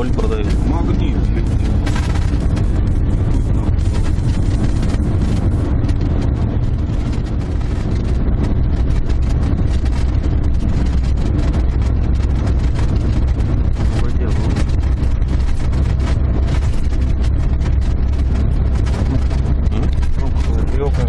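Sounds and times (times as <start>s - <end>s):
car engine: 0.0s - 21.0s
road noise: 0.0s - 21.0s.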